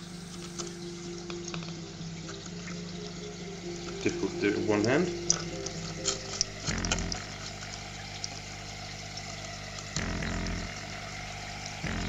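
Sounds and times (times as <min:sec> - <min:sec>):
aquarium pumps humming: 0:00.0 - 0:12.0.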